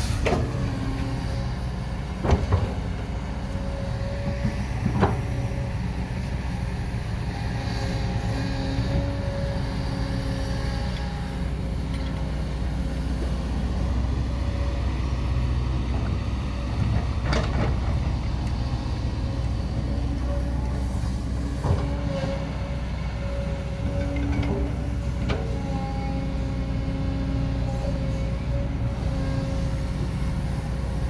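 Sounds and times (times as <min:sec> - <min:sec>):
excavator rumble: 0:00.0 - 0:31.0.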